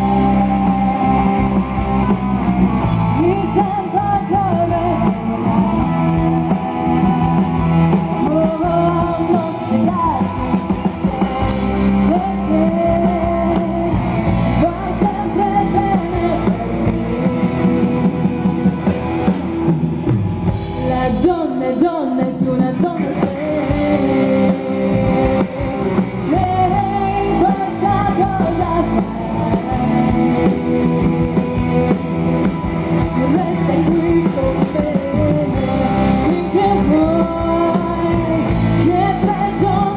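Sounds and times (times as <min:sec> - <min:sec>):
rock song with singing: 0:00.0 - 0:39.9.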